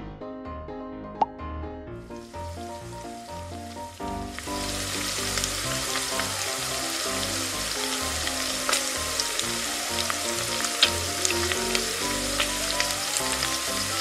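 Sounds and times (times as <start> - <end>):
oil sizzling with crackles: 2.2 - 14.0.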